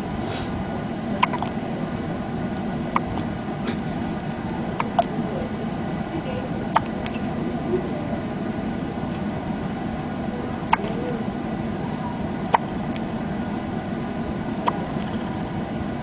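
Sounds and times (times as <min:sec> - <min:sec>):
steady background rumble: 0:00.0 - 0:16.0.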